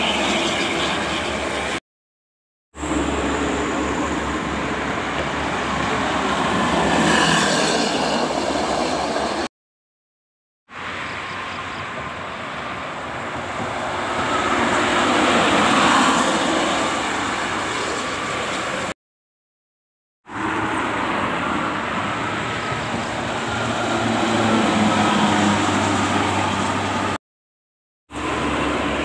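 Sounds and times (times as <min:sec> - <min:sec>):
buses passing: 0:00.0 - 0:01.8, 0:02.8 - 0:09.5, 0:10.7 - 0:19.0, 0:20.3 - 0:27.2, 0:28.1 - 0:29.0
highway traffic rushing: 0:00.0 - 0:01.8, 0:02.8 - 0:09.5, 0:10.7 - 0:19.0, 0:20.2 - 0:27.2, 0:28.1 - 0:29.0.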